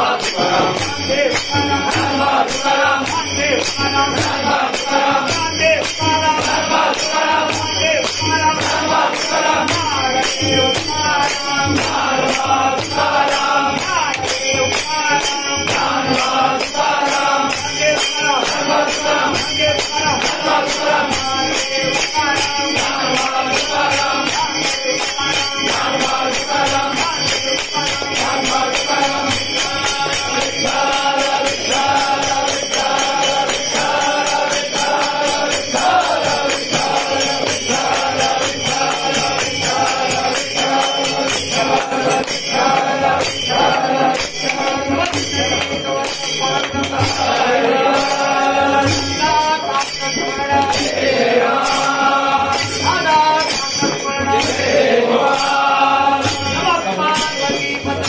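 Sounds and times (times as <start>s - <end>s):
hand-clapping: 0.0s - 54.6s, 55.4s - 58.0s
crowd singing a devotional chant: 0.0s - 58.0s
percussion beat: 0.0s - 58.0s.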